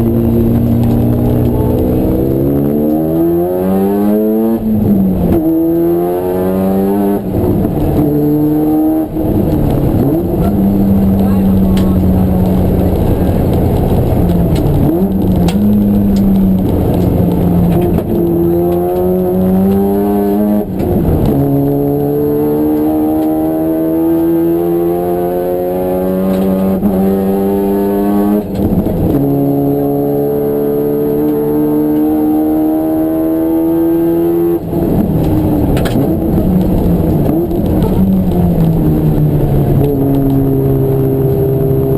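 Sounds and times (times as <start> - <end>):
racing car engine accelerating: 0.0 - 41.9.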